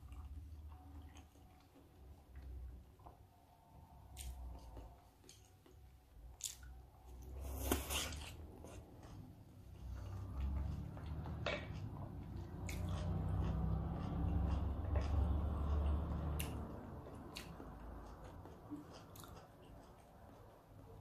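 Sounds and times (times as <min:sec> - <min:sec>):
person chewing: 0:00.0 - 0:03.3, 0:04.1 - 0:21.0.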